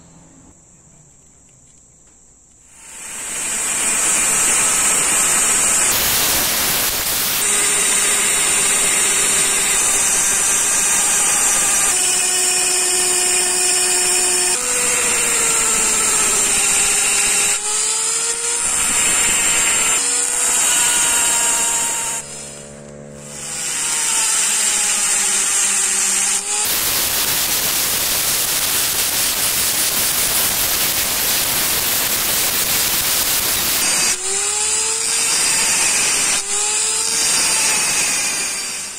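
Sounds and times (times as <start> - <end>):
engraving bit grinding steel: 2.7 - 38.9
rotary engraver whining: 2.7 - 38.9.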